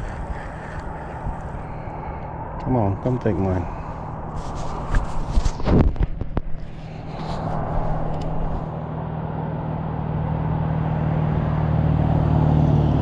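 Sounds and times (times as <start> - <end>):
motor droning: 0.0 - 11.7.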